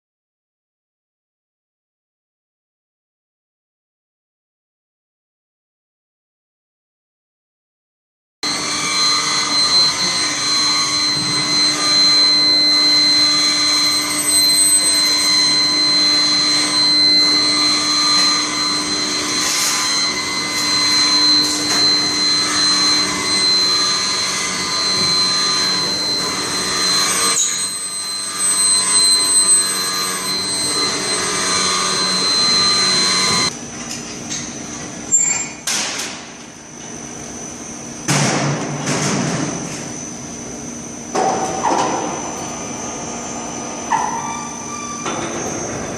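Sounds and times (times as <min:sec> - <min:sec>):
industrial machinery with high whine: 0:08.4 - 0:45.9.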